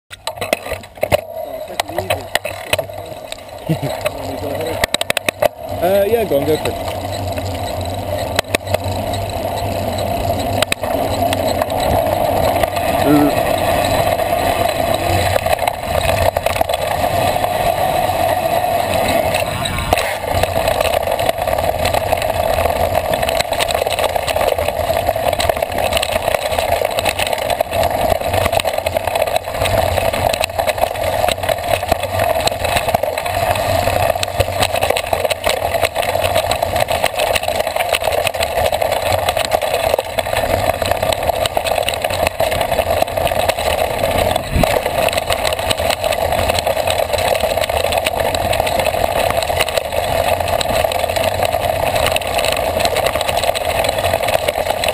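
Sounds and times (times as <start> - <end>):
bike rattles and knocks: 0.1 - 54.9
bike tyres rolling rumble: 0.1 - 54.9
wind: 0.1 - 54.9.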